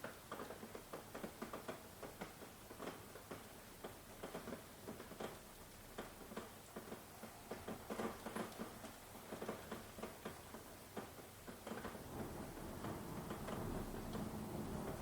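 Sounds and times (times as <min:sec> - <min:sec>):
raindrops tapping: 0:00.0 - 0:15.0
soft steady rain hiss: 0:00.0 - 0:15.0.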